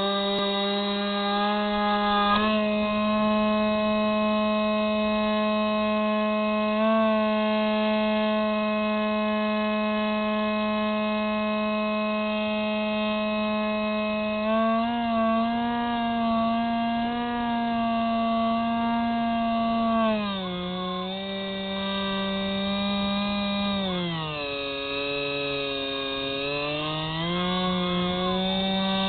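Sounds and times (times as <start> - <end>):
model plane motor whining: 0.0 - 29.0.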